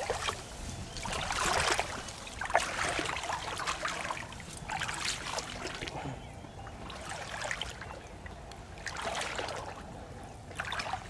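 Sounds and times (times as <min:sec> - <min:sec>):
water splashing around wading legs: 0:00.0 - 0:06.1, 0:06.8 - 0:08.0, 0:08.7 - 0:09.9, 0:10.5 - 0:11.0.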